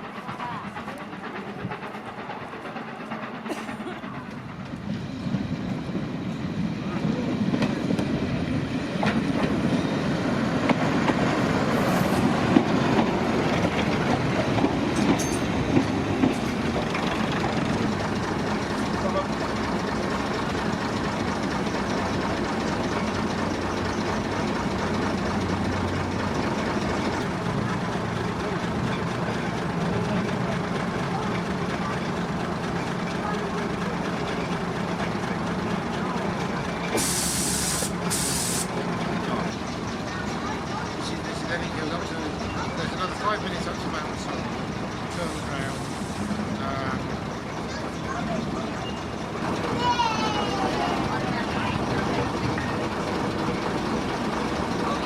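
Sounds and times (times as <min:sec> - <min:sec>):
wheels clicking on rails: 0:00.0 - 0:05.8, 0:06.6 - 0:55.0
train rumbling along track: 0:00.0 - 0:55.0.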